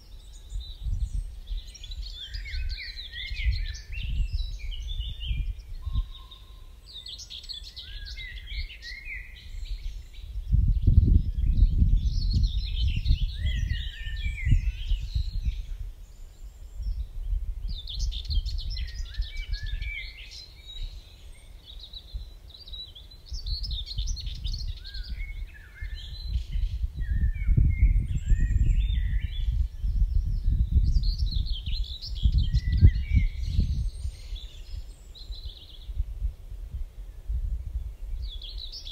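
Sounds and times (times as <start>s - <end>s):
songbirds singing: 0.0s - 38.9s
wind buffeting microphone: 0.2s - 6.5s, 7.8s - 38.9s.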